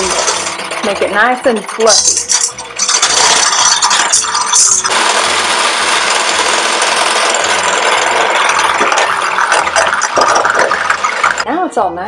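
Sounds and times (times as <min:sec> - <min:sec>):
electric hand mixer whirring: 0:00.0 - 0:11.5.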